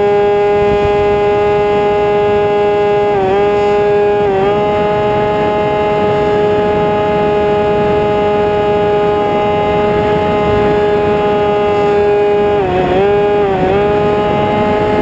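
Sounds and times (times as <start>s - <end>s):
model airplane electric motor whining: 0.0s - 15.0s.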